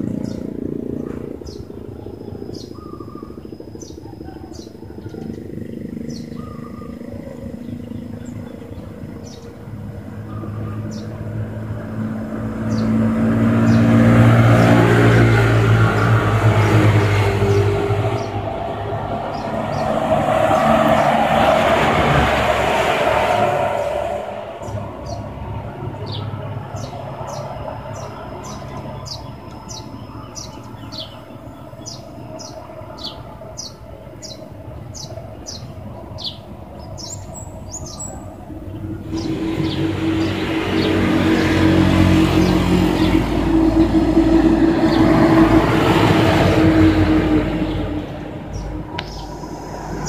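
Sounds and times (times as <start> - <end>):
vehicle engine passing: 5.3 - 36.4, 37.0 - 50.0.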